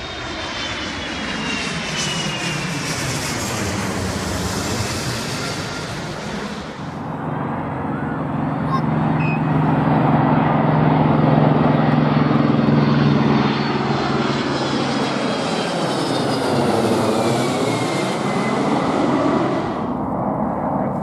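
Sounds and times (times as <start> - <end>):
jet plane roaring overhead: 0.0 - 21.0.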